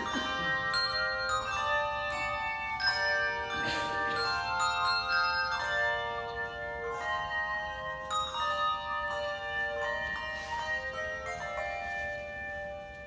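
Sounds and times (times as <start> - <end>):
handbell chords ringing: 0.0 - 13.0.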